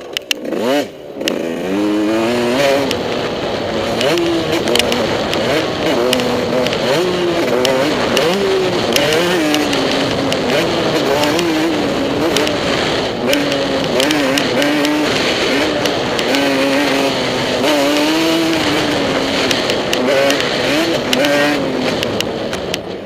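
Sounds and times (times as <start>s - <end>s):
sharp clicks: 0.0s - 0.5s, 2.7s - 23.0s
motocross bike engine revving: 0.0s - 23.0s.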